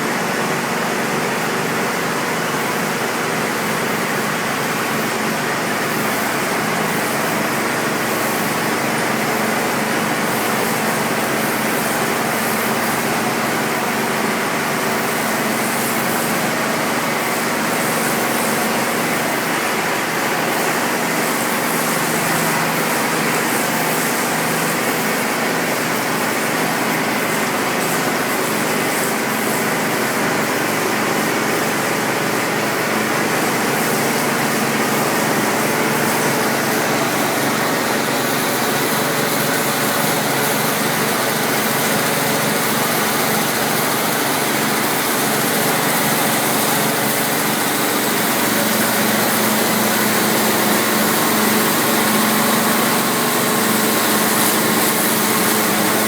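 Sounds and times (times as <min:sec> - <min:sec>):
log-rounding machine running: 0:00.0 - 0:56.0.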